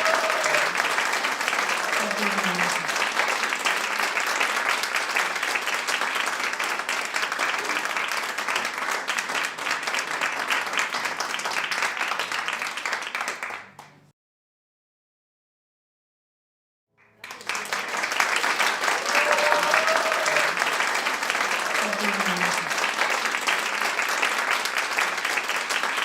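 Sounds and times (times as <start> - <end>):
audience applauding: 0.0 - 14.0, 17.0 - 26.0.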